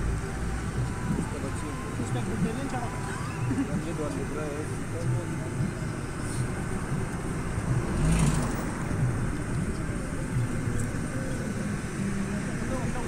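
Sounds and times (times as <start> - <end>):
vehicle road noise: 0.0 - 13.0.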